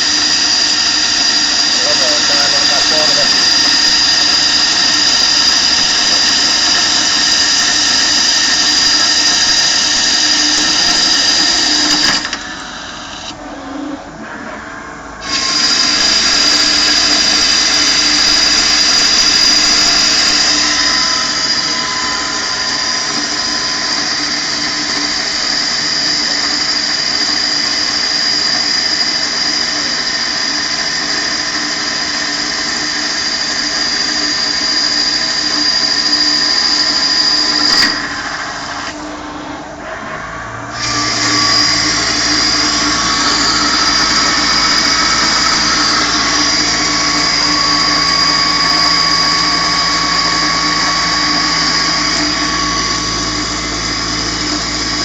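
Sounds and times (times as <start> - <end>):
lathe machining whine: 0.0 - 55.0.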